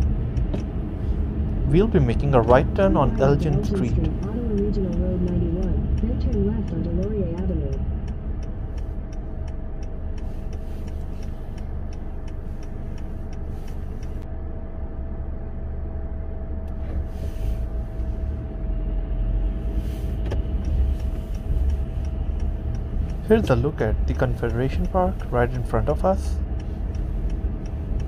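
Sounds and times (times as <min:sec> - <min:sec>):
turn signal ticking: 0:00.0 - 0:14.2, 0:17.6 - 0:28.0
car engine and tyres rumbling: 0:00.0 - 0:28.0.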